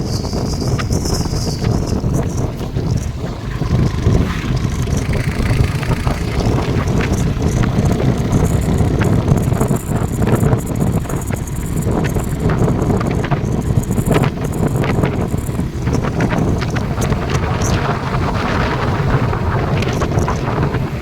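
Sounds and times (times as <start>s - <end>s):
steady low rumble: 0.0s - 21.0s
wind buffeting microphone: 0.0s - 21.0s.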